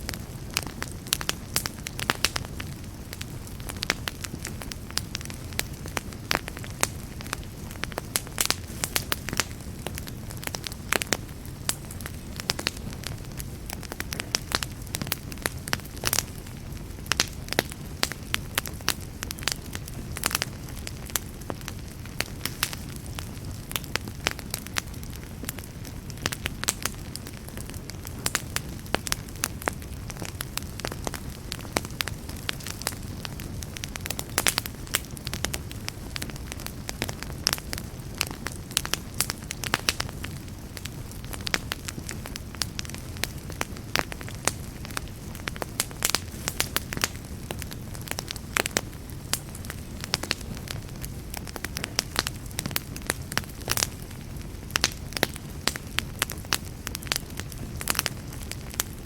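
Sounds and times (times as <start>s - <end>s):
campfire crackles and pops: 0.0s - 59.0s
low rumble of flames: 0.0s - 59.0s.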